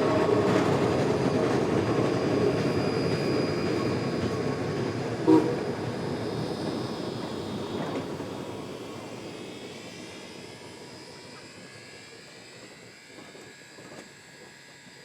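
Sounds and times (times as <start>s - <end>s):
steam train rumble: 0.0s - 14.0s.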